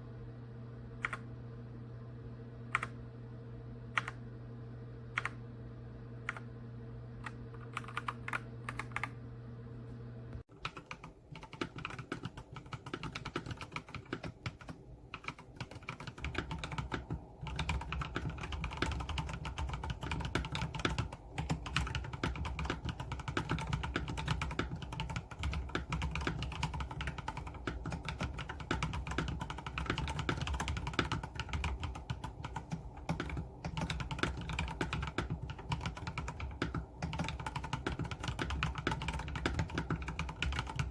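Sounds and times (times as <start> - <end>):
steady hum: 0.0 - 40.9
mechanical keyboard typing: 2.7 - 3.0, 4.0 - 4.2, 5.2 - 5.4, 7.2 - 9.1, 10.5 - 40.9.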